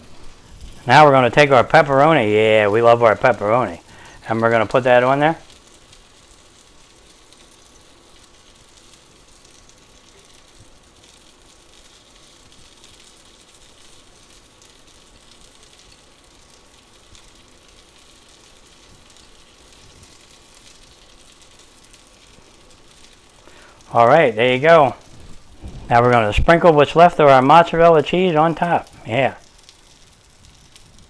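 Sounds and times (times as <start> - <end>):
food sizzling in a skillet: 0.0 - 31.0.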